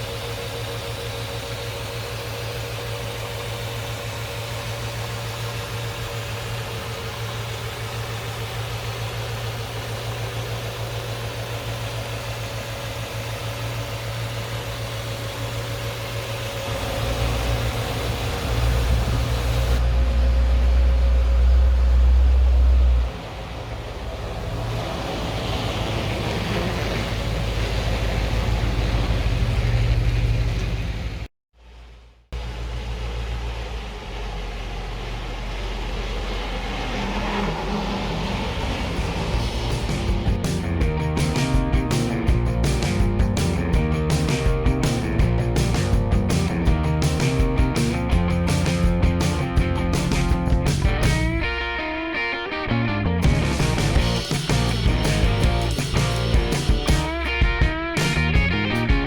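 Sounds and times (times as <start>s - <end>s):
car engine idling: 0.0s - 52.0s, 52.8s - 59.0s.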